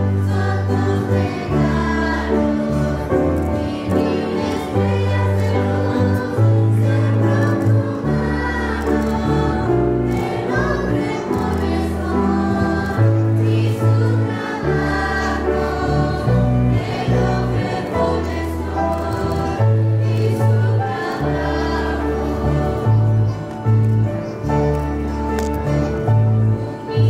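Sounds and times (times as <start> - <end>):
choir singing a hymn: 0.0 - 27.0.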